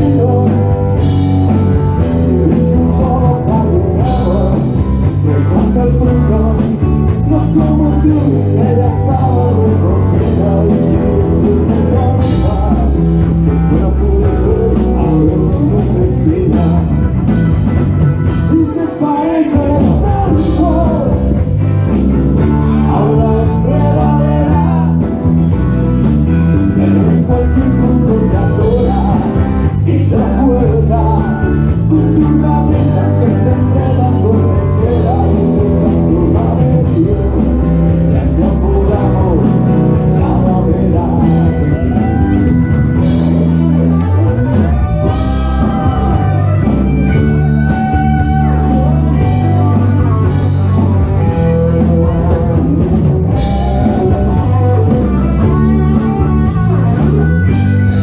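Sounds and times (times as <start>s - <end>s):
live rock band playing: 0.0s - 58.0s
person singing lead vocals: 0.0s - 58.0s.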